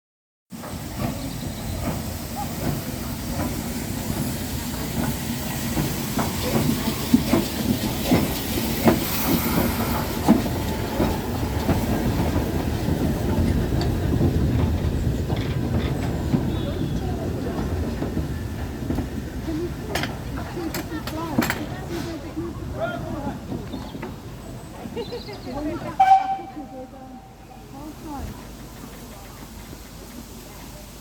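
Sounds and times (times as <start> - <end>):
locomotive rumbling: 0.5 - 31.0
wheels clicking over rail joints: 0.6 - 26.8.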